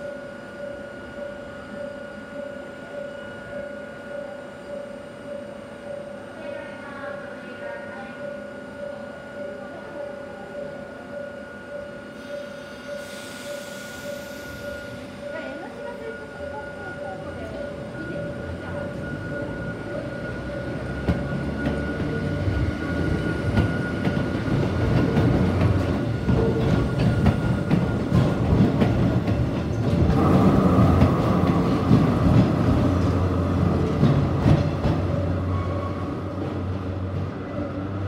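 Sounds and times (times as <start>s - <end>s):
electric train passing: 0.0s - 38.0s
steady high tone: 0.0s - 38.0s.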